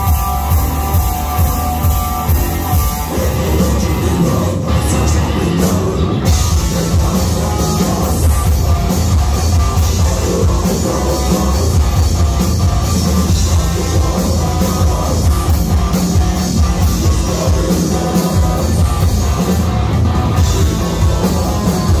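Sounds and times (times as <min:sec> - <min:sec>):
person singing: 0:00.0 - 0:12.2, 0:13.3 - 0:19.6, 0:20.3 - 0:22.0
distorted electric guitar: 0:00.0 - 0:22.0
drum kit: 0:00.0 - 0:22.0.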